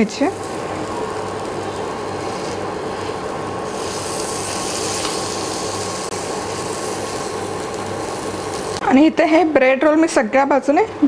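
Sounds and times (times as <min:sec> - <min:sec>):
bread rolls sizzling in pan: 0:00.0 - 0:09.3.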